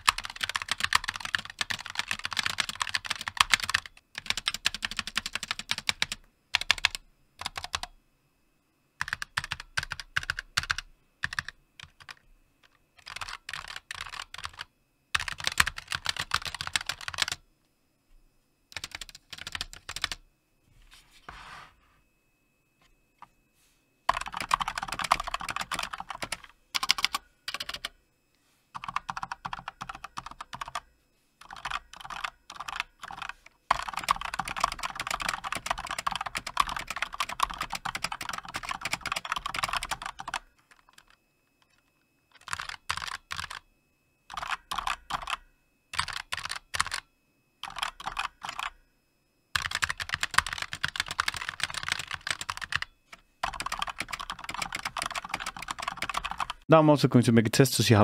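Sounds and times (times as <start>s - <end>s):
fast keyboard typing: 0.0s - 7.9s, 9.0s - 17.4s, 18.7s - 20.2s, 24.1s - 28.0s, 28.7s - 43.6s, 44.3s - 48.8s, 49.5s - 56.6s.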